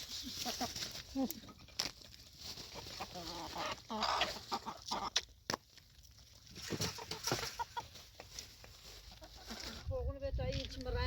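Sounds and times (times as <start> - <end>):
chickens clucking: 0.0 - 9.9.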